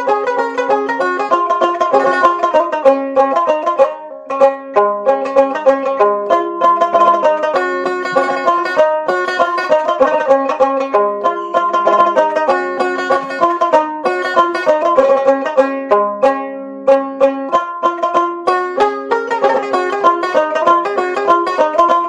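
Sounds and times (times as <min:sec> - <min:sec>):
plucked banjo-like string instrument: 0:00.0 - 0:22.0.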